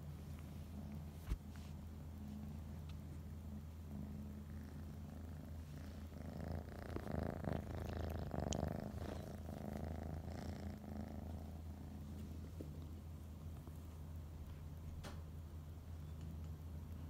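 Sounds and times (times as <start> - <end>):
cat purring: 0.2 - 17.0.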